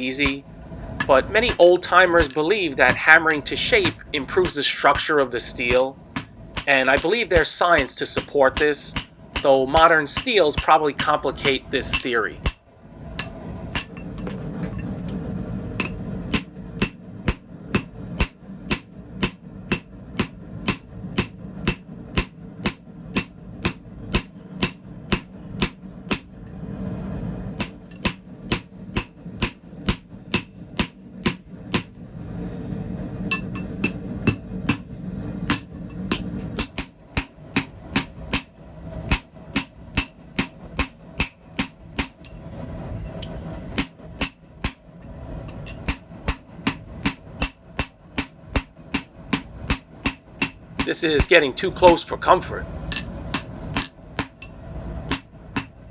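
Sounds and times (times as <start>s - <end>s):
hammer striking steel on anvil: 0.0s - 0.4s, 1.0s - 15.0s, 15.8s - 26.4s, 27.6s - 32.0s, 33.3s - 34.9s, 35.5s - 42.4s, 43.1s - 44.8s, 45.4s - 52.0s, 52.9s - 55.8s
low hum: 0.0s - 55.9s.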